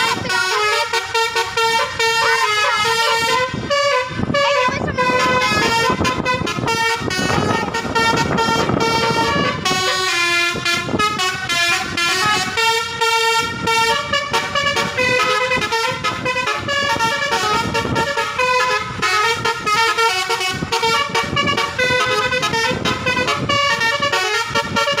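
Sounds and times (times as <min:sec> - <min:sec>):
multi-tone vehicle horn melody: 0:00.0 - 0:25.0.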